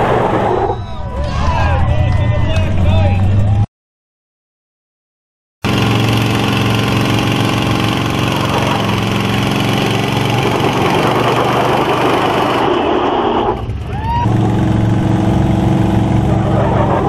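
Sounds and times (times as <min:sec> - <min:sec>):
truck engines at high revs: 0:00.0 - 0:03.7, 0:05.6 - 0:17.0.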